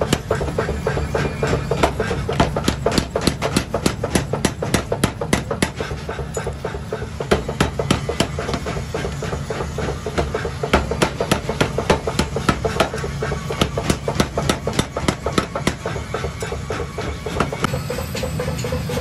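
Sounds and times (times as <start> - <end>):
power hammer striking steel: 0.0 - 19.0.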